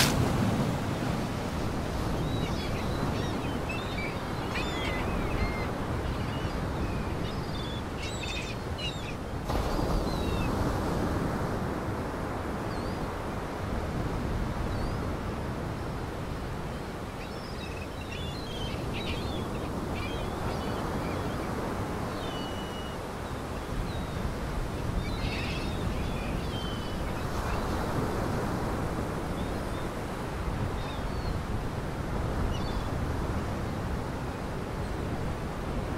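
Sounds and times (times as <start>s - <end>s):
waves and wind rushing: 0.0s - 35.9s.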